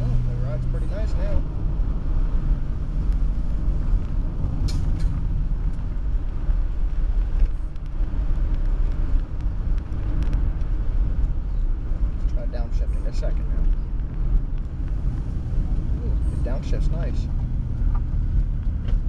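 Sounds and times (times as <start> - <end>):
car engine drone: 0.0 - 19.0
road noise: 0.0 - 19.0.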